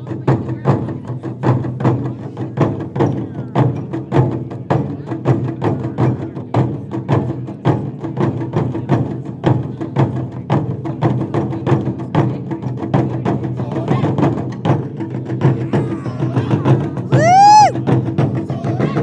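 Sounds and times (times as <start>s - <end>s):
fast drum strikes: 0.0s - 19.0s.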